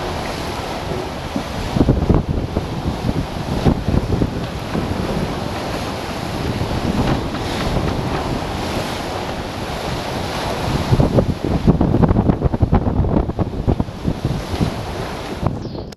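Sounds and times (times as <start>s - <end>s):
waves breaking against hull: 0.0s - 15.9s
wind buffeting microphone: 0.0s - 15.9s.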